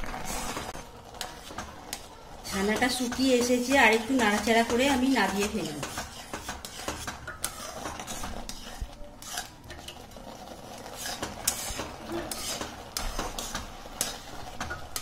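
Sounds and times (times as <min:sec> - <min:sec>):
metal spatula scraping a pan: 0:00.0 - 0:15.0.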